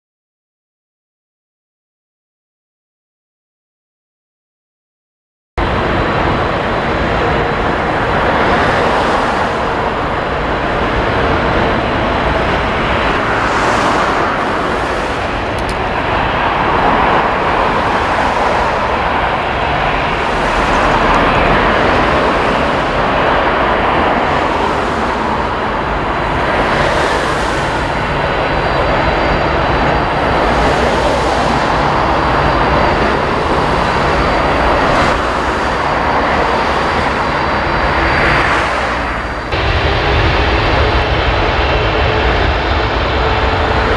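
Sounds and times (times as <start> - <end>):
jet engines roaring: 5.6 - 43.9.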